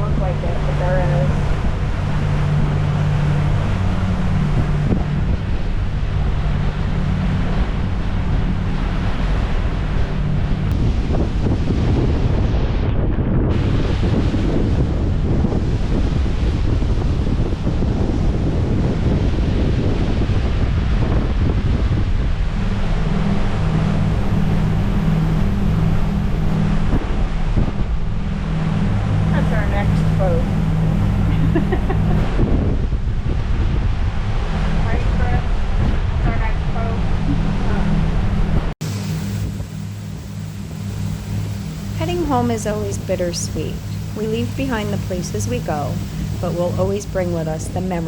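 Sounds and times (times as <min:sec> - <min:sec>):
powerboat engine drone: 0:00.0 - 0:48.0
water rushing along hull: 0:00.0 - 0:48.0
wind buffeting microphone: 0:00.0 - 0:48.0.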